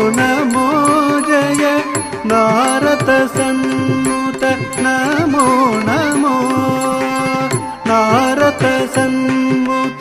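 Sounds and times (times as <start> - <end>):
percussion strokes: 0.0 - 10.0.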